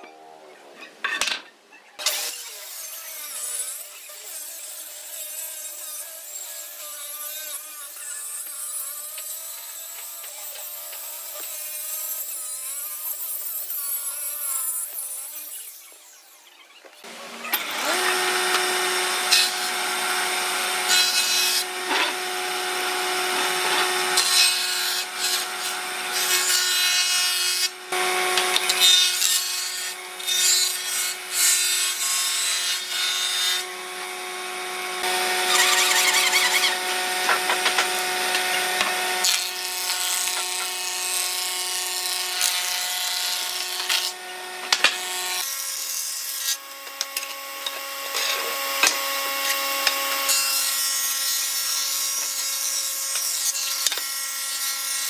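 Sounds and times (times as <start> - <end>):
planer cutting wood: 2.0 - 55.0.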